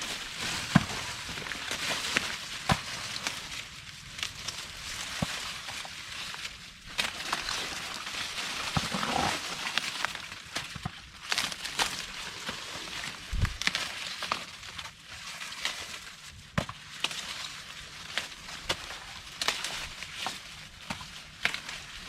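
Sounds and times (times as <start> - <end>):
corn leaves rustling: 0.0 - 22.0
corn stalks snapping: 0.1 - 22.0.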